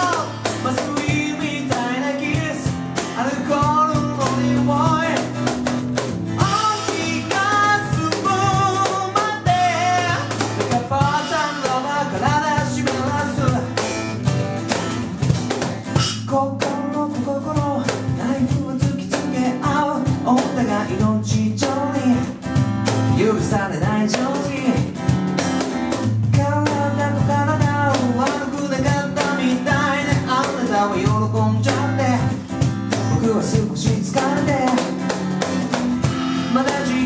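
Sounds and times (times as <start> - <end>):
man singing: 0.0 - 14.2, 15.8 - 25.2, 26.0 - 37.0
cajon percussion: 0.0 - 37.0
strummed acoustic guitar: 0.0 - 37.0.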